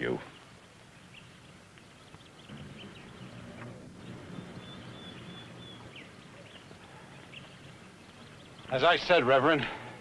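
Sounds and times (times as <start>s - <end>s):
low steady hum: 0.0s - 10.0s
high bird chirps: 1.0s - 9.1s.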